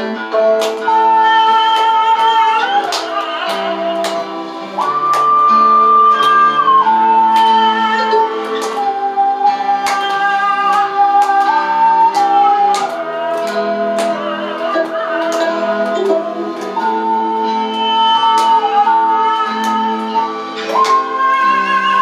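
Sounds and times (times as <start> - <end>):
ocarina melody: 0.0 - 22.0
plucked chords: 0.0 - 22.0.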